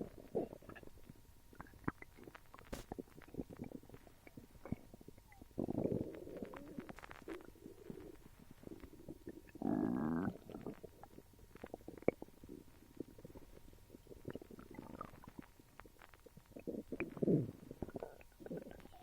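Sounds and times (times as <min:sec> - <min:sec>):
stomach gurgling: 0:00.0 - 0:19.0.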